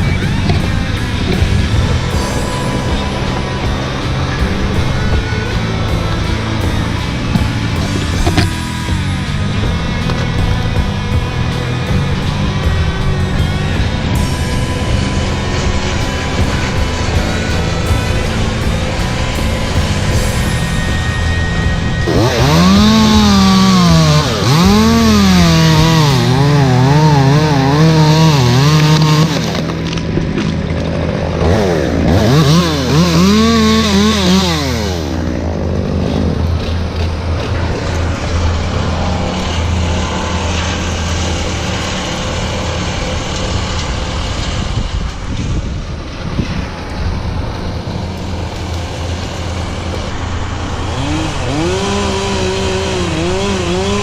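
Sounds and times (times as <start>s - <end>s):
chainsaw cutting and revving: 0.0s - 45.4s, 46.5s - 54.0s
steady low hum: 0.0s - 54.0s.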